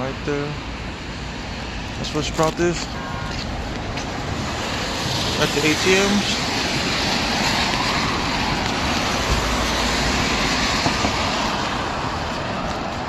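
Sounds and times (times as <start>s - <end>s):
passing road vehicles hissing: 0.0s - 13.0s.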